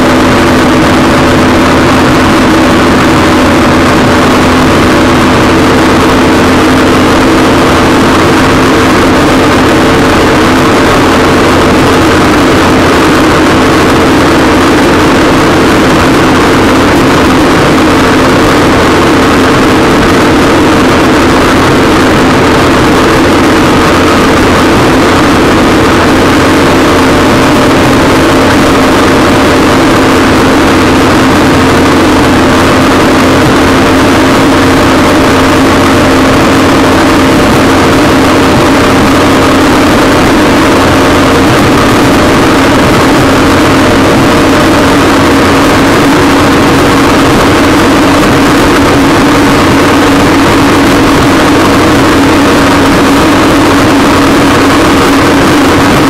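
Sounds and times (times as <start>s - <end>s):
personal watercraft engine running: 0.0s - 56.0s.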